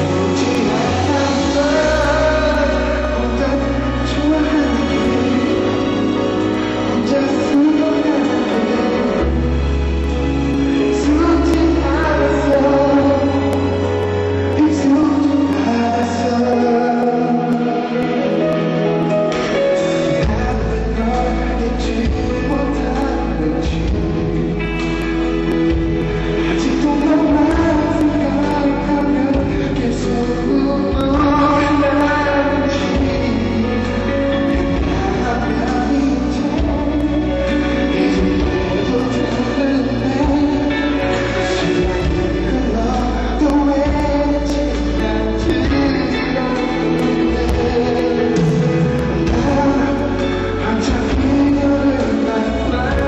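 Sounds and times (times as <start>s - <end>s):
live pop band playing: 0.0s - 53.0s
man singing: 0.0s - 53.0s.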